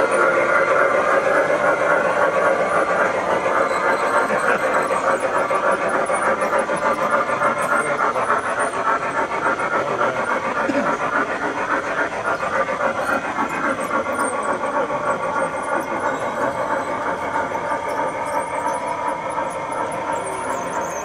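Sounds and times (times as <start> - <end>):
wheels rolling on rails: 0.0 - 11.0, 11.8 - 21.0
model steam locomotive chuffing: 0.0 - 21.0.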